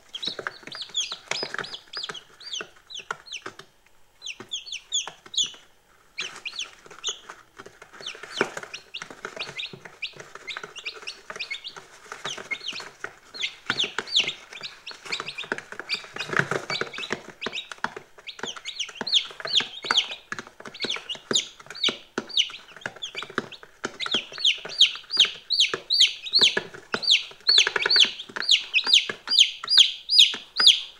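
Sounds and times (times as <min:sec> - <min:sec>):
chicks peeping: 0:00.0 - 0:30.9.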